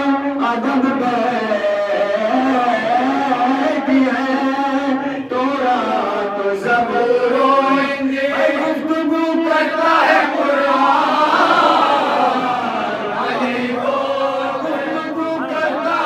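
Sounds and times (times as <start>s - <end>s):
men singing along: 0.0s - 16.0s.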